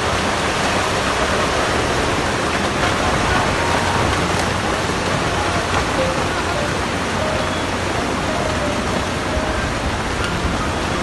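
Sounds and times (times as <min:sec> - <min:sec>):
landslide rushing down slope: 0:00.0 - 0:11.0.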